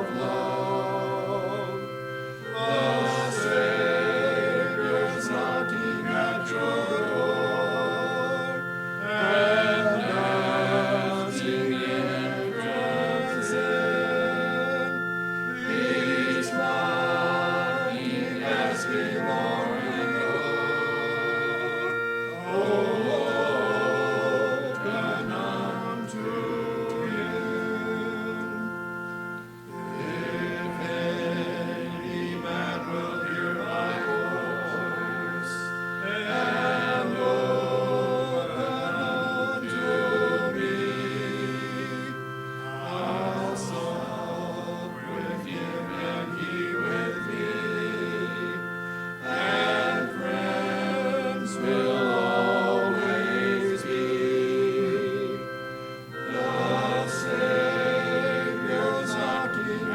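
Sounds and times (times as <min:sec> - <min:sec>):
congregation singing a hymn: 0:00.0 - 0:59.9
held accompanying chords: 0:00.0 - 0:59.9.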